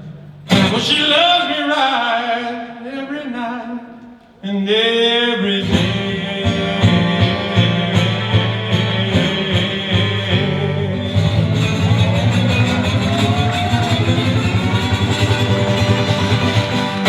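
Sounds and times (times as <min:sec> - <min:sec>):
acoustic blues guitar: 0:00.0 - 0:17.0.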